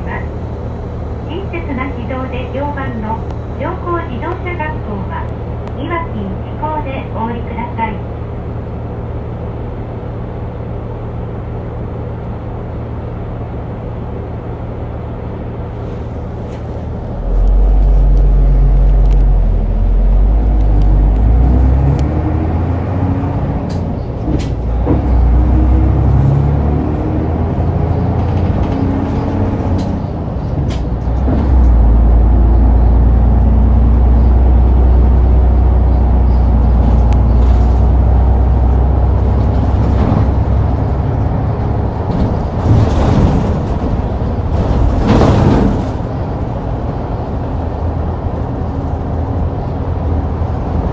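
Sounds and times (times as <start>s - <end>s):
bus engine idling and accelerating: 0.0s - 50.9s.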